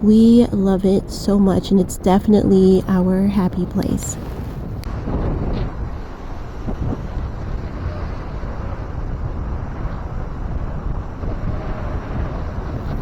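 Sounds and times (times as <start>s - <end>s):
ocean surf washing: 0.0s - 13.0s
wind rumbling on microphone: 0.0s - 13.0s.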